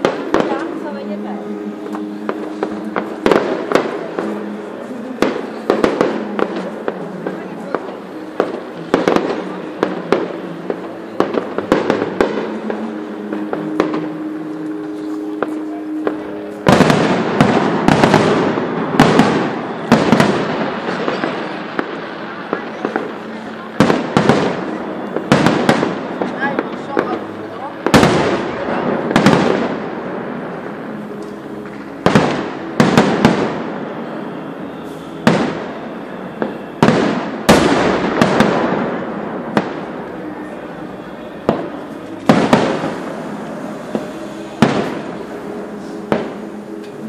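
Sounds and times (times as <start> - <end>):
fireworks bangs: 0.0 - 47.0
fireworks crackling: 0.0 - 47.0.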